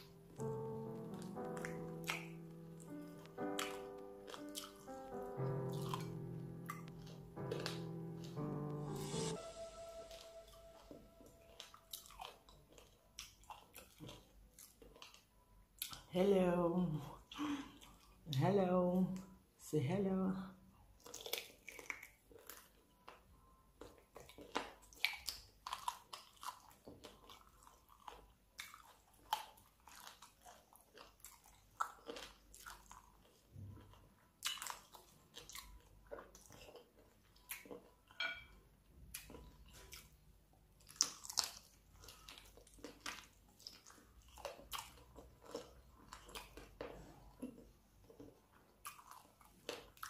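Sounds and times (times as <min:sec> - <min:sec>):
person chewing with crunches: 0:00.0 - 0:16.1, 0:20.8 - 0:38.3, 0:38.9 - 0:50.0.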